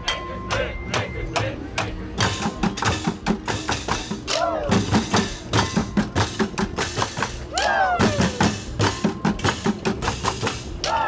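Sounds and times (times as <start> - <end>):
percussion on pots and trash cans: 0.0 - 11.0.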